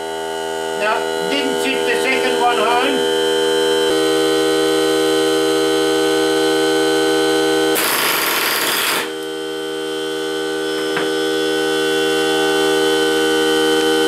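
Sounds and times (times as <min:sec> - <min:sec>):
air compressor running: 0:00.0 - 0:13.2.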